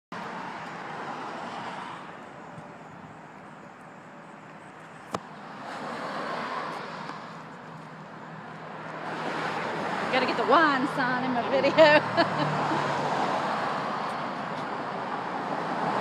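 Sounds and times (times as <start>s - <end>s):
road traffic passing: 0.1s - 16.0s.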